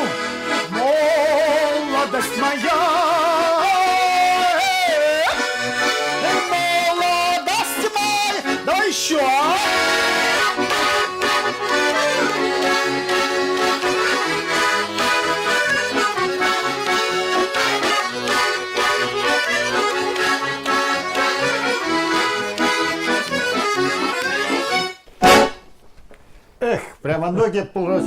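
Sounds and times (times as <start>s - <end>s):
button accordion folk tune: 0.0s - 25.7s, 27.8s - 28.0s.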